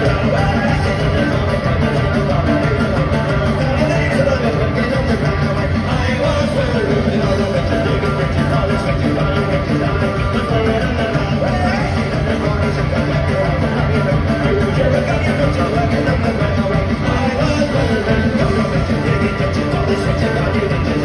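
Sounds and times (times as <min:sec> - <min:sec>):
live folk-punk band playing: 0:00.0 - 0:21.0
person singing: 0:00.0 - 0:21.0.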